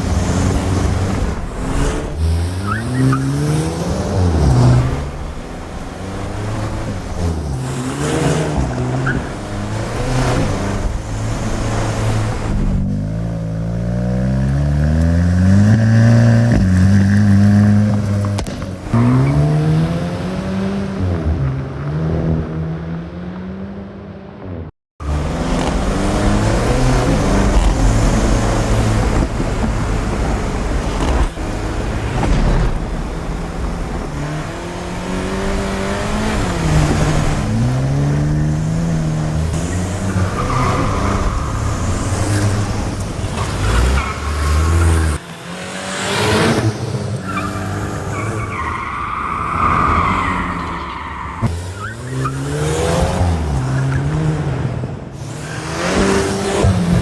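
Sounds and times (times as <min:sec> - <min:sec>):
car engine accelerating hard: 0:00.0 - 0:24.0, 0:25.0 - 0:57.0.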